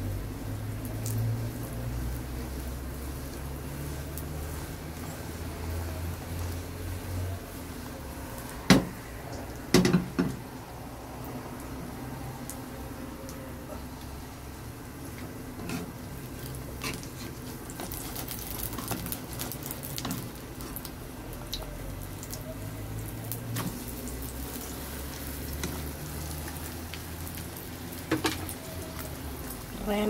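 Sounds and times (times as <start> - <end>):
omelette sizzling in oil: 0.0 - 30.0.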